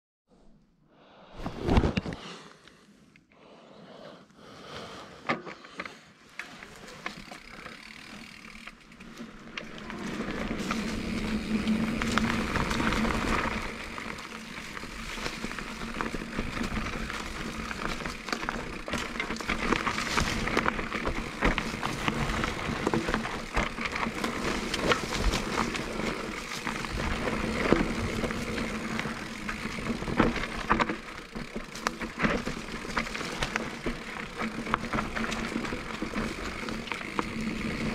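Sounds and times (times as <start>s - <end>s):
bike tyres rolling on dirt: 4.6s - 37.9s
bike clicks and rattles: 5.2s - 37.9s.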